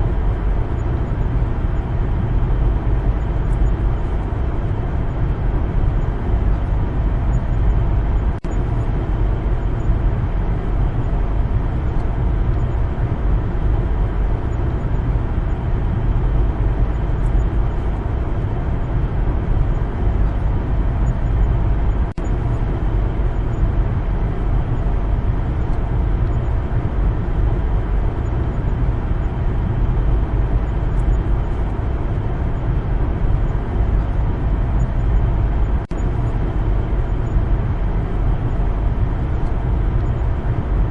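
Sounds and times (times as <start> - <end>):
car driving on road: 0.0 - 40.9.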